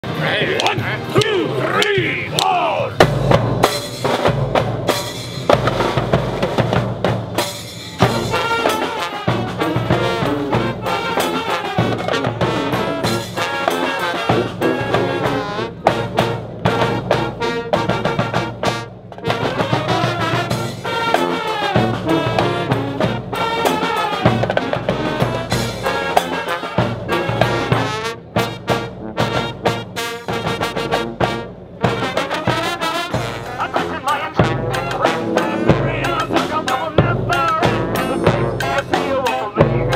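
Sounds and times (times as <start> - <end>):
brass band playing: 0.0 - 39.9.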